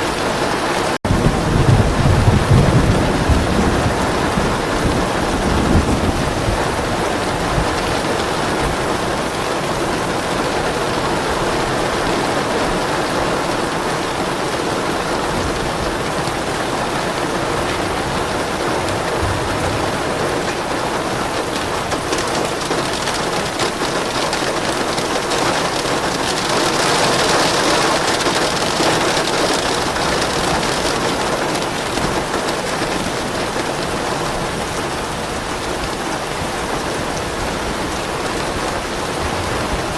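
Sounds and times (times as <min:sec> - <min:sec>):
rain falling: 0:00.0 - 0:39.9
soft thunder rumble: 0:01.1 - 0:11.9, 0:13.6 - 0:34.8.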